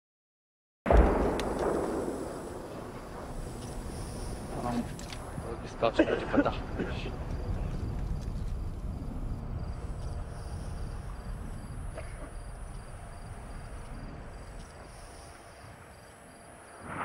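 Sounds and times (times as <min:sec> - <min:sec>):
low rumble: 0:00.9 - 0:15.5
cricket chirping: 0:00.9 - 0:17.0.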